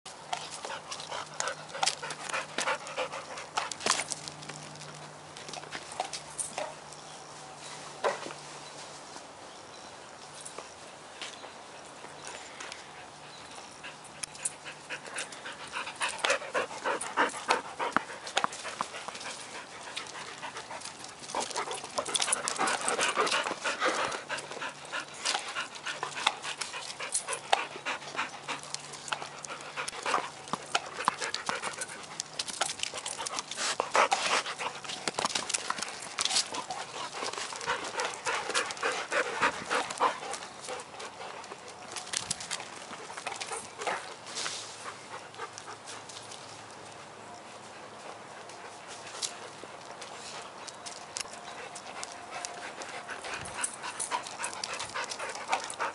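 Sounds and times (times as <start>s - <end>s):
dogs panting: 0.1s - 6.9s, 11.8s - 55.9s.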